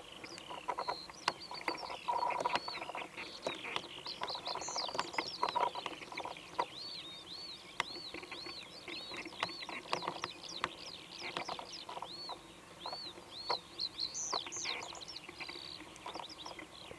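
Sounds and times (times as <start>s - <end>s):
birds chirping: 0.0s - 16.9s
sharp bird chip calls: 0.0s - 16.9s.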